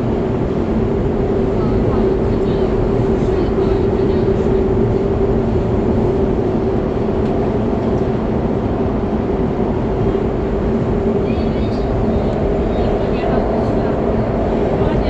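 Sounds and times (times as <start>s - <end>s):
train drive whine: 0.0s - 15.0s
train wheels rumbling on rail: 0.0s - 15.0s.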